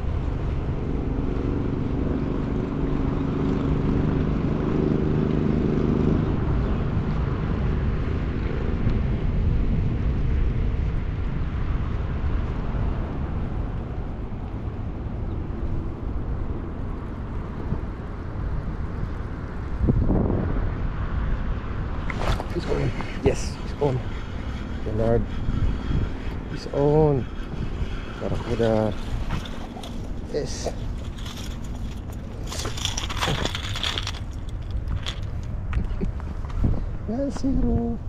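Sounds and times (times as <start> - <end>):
low outdoor rumble: 0.0 - 38.0.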